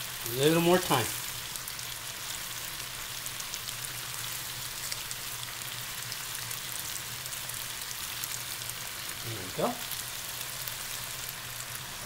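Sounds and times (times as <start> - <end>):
pasta sizzling in frying pan: 0.0 - 12.0.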